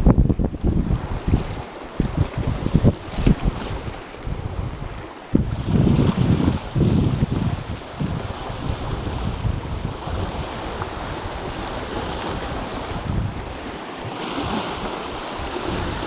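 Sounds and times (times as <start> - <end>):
surf washing over rocks: 0.0 - 16.0
wind buffeting microphone: 0.0 - 16.0.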